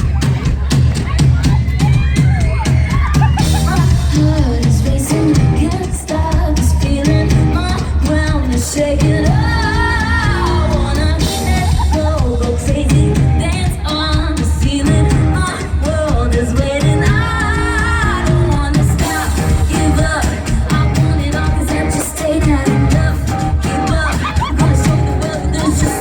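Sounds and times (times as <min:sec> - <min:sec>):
amplified band playing: 0:00.0 - 0:26.0
woman singing: 0:01.1 - 0:26.0.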